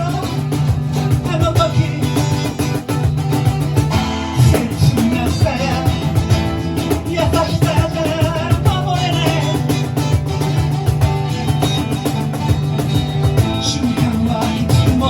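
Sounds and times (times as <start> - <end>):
drum kit: 0.0 - 15.0
electric guitar: 0.0 - 15.0.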